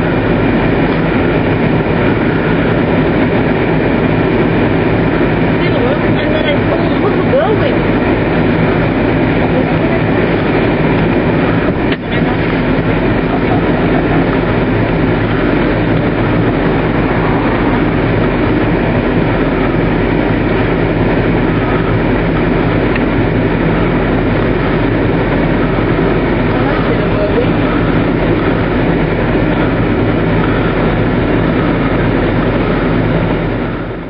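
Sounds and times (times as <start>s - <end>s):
vehicle engine and road rumble: 0.0s - 34.0s.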